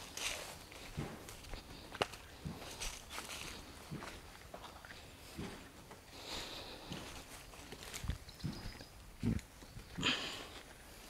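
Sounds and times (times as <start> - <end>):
footsteps on soft ground: 0.0 - 11.0.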